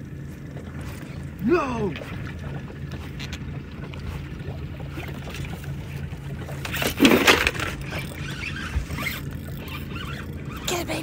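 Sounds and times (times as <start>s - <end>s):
boat motor idling: 0.0s - 11.0s.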